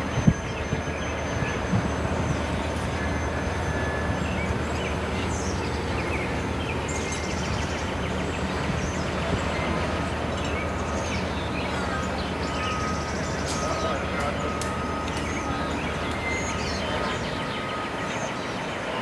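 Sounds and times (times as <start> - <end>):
bird chirps: 0.0 - 19.0
constant low hum: 0.0 - 19.0
train cars rumbling on rails: 0.0 - 19.0.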